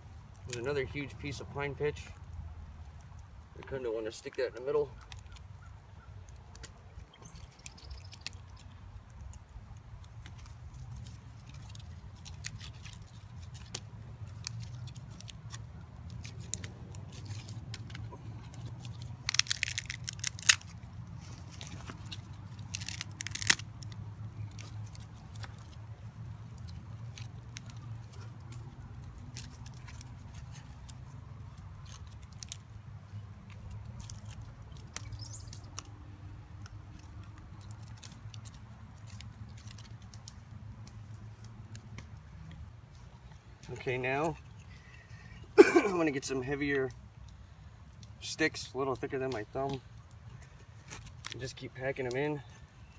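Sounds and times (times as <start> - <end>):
bark and leaves crackling: 0.0 - 52.9.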